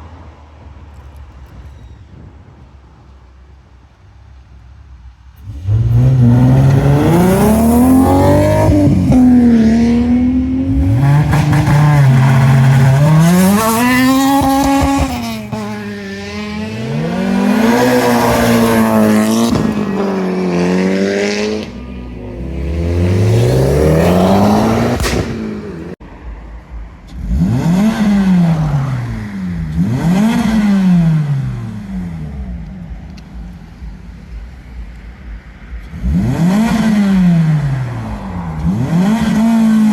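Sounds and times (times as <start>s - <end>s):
car engines revving hard: 5.4s - 26.0s, 26.9s - 39.9s.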